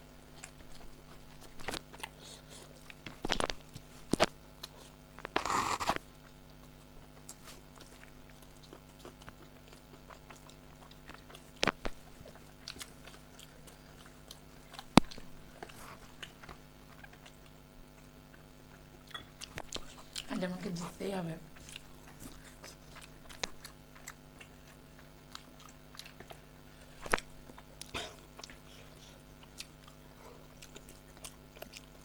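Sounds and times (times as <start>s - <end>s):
people chewing food: 0.0s - 32.0s.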